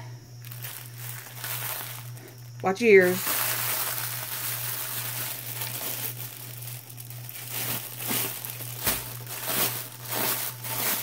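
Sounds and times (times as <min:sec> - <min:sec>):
plastic bag crinkling: 0:00.4 - 0:11.0.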